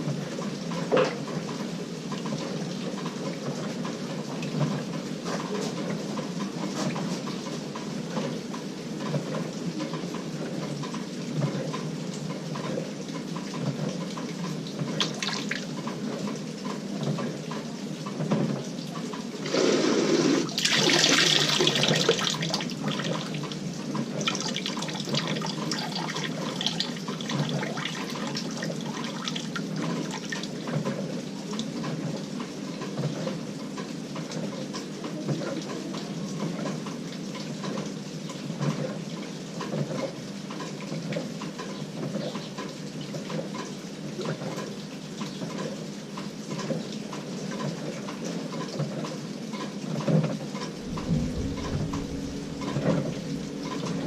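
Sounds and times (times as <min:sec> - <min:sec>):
water swishing in washing machine: 0:00.0 - 0:54.0.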